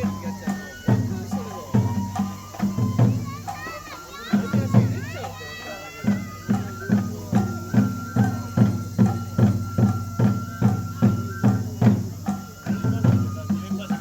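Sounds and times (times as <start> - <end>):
bamboo flute high note: 0.0 - 14.0
taiko drum beating: 0.0 - 14.0.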